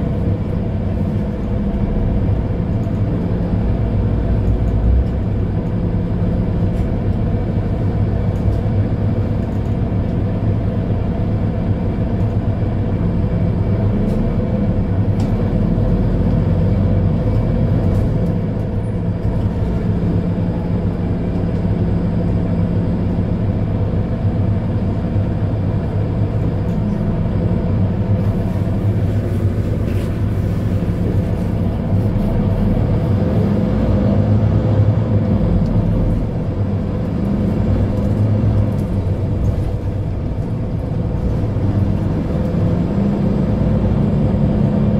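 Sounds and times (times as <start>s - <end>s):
bus diesel engine idling: 0.0s - 44.9s.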